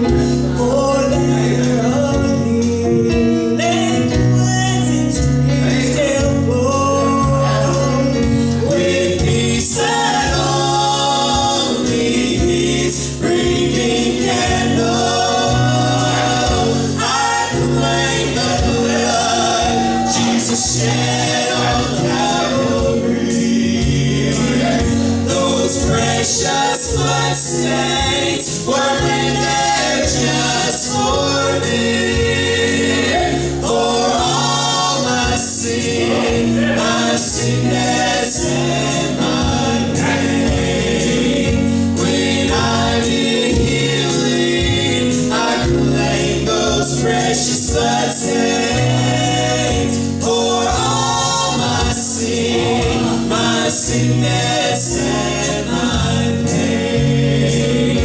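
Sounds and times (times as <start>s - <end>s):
gospel group singing in harmony: 0.0s - 58.0s.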